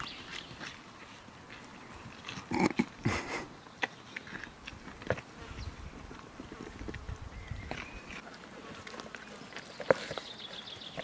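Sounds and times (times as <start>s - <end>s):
rams crunching vegetables: 0.0s - 3.1s, 3.8s - 11.0s.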